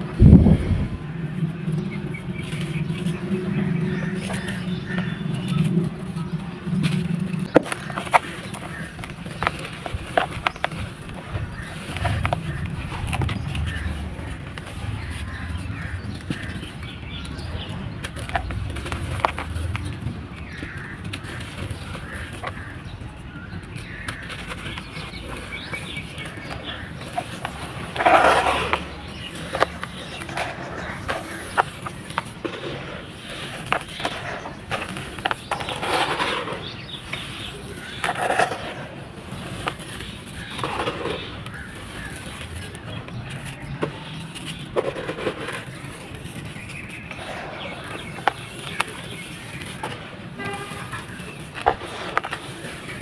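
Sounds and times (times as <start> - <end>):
faint crackles: 0.0 - 53.0
loud crunch: 2.3 - 53.0.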